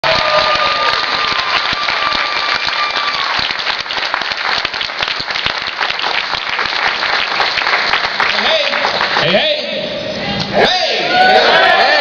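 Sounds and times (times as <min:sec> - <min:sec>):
audience applauding and cheering: 0:00.0 - 0:09.7.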